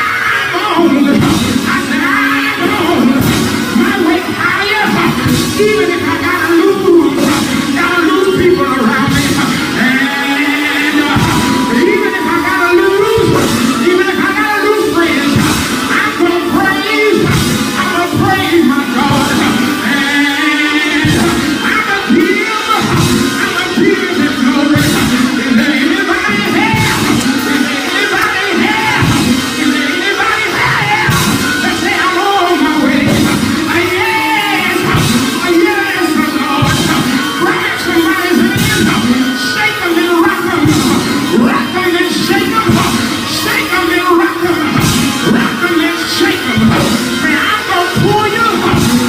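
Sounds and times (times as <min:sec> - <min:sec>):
church band playing praise music: 0:00.0 - 0:49.0
voices singing along: 0:00.0 - 0:49.0.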